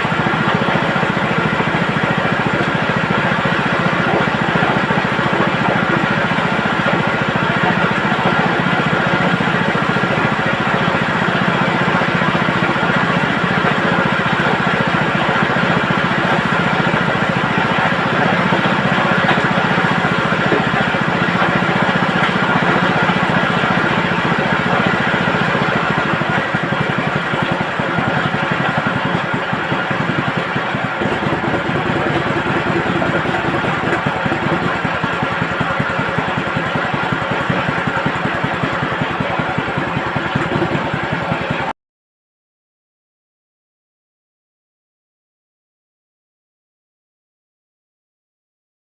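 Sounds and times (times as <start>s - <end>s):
plucking machine drum droning: 0.0s - 41.7s.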